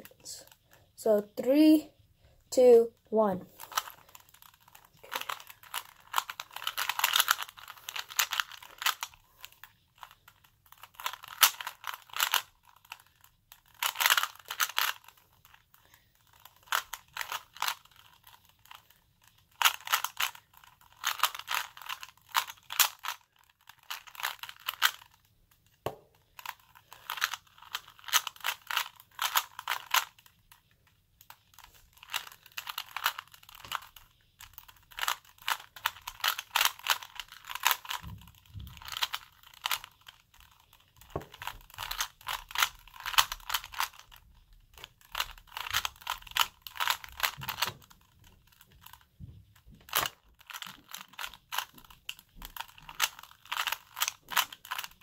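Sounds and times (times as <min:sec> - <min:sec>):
puzzle cube layers clicking: 0:03.5 - 0:30.6, 0:31.2 - 0:49.1, 0:49.8 - 0:55.0.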